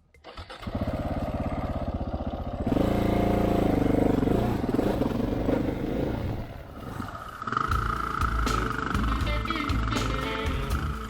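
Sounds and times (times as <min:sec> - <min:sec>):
motorcycle engine accelerating: 0:00.4 - 0:11.0.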